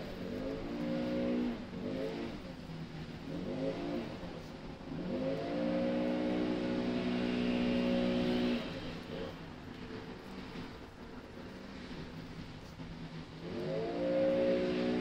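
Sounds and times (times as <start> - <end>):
leaf blower revving: 0.0 - 10.8, 11.5 - 15.0.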